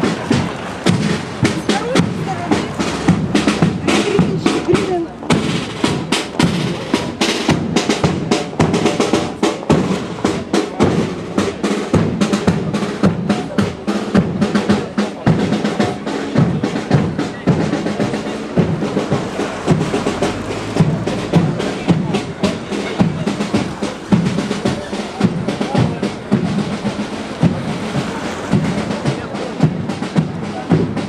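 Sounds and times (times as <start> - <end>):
snare and bass drums marching: 0.0 - 31.0.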